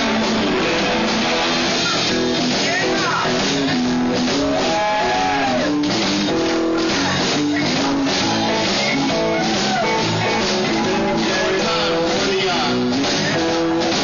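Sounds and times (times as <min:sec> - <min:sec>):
blues band playing: 0:00.0 - 0:14.0
lead electric guitar bending notes: 0:00.0 - 0:14.0.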